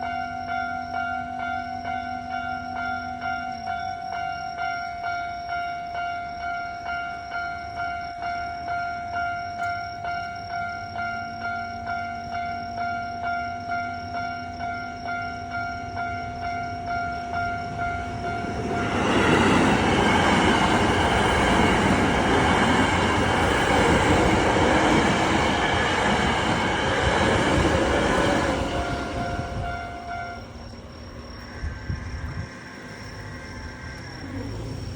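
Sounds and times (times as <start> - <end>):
train rumble and wheel noise: 0.0 - 34.9.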